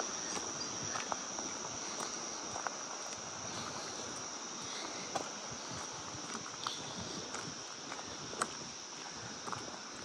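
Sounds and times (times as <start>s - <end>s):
background hiss: 0.0s - 10.0s
footsteps on a trail: 0.0s - 10.0s
insects droning: 0.0s - 10.0s.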